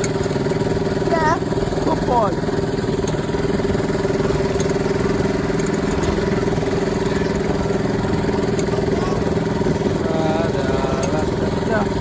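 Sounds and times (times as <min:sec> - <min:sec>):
locomotive engine running: 0:00.0 - 0:12.0.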